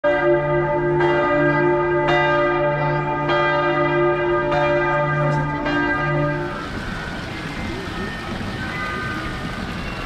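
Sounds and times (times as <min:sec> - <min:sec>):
large tower bells ringing: 0:00.0 - 0:10.0.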